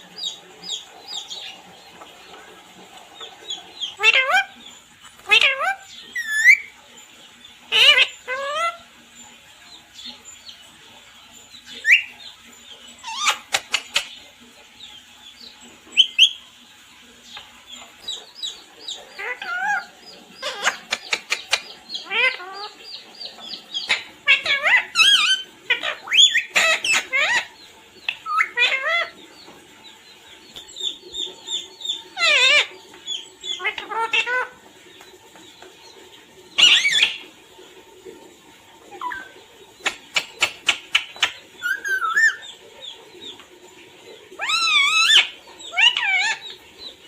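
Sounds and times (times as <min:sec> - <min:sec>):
parrot chirping and squawking: 0:02.9 - 0:10.6, 0:11.3 - 0:29.2, 0:30.5 - 0:34.8, 0:36.5 - 0:37.4, 0:38.9 - 0:43.4, 0:44.2 - 0:47.0.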